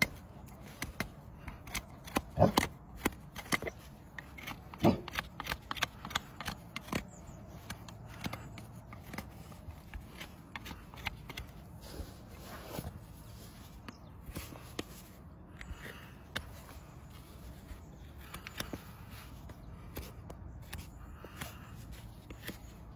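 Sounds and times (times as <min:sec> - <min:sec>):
hoof knife scraping hoof: 0:00.0 - 0:22.9.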